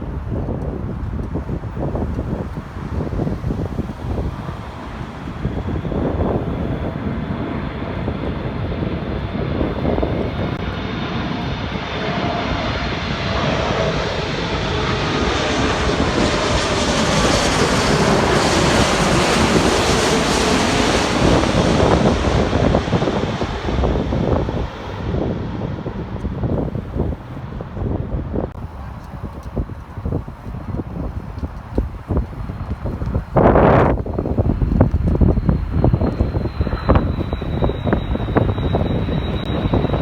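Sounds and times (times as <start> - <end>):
jet airliner passing overhead: 0.0 - 40.0.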